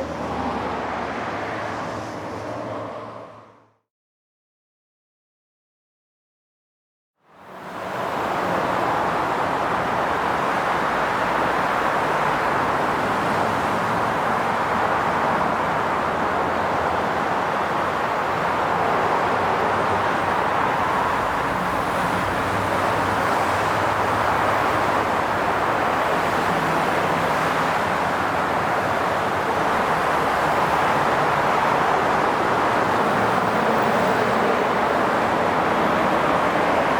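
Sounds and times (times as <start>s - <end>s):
highway traffic rushing: 0.0s - 3.8s, 7.3s - 36.9s.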